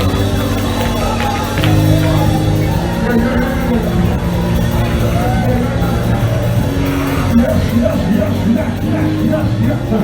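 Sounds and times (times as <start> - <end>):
church music with held chords: 0.0 - 10.0
congregation shouting praise: 0.0 - 10.0.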